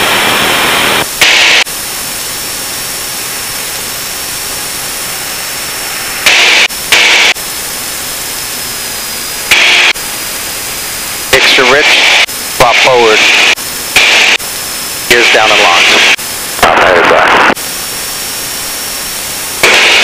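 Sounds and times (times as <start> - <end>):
aircraft engine and airflow hiss: 0.0 - 19.6
loud bursts of static: 0.0 - 20.0.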